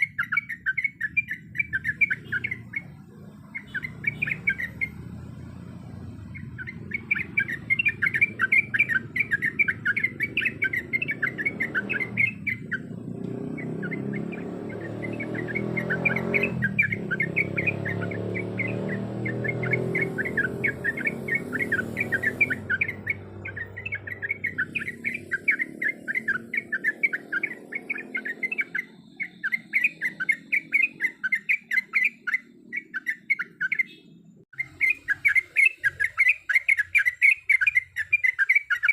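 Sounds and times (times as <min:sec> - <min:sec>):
bulbul chirping: 0:00.0 - 0:38.9.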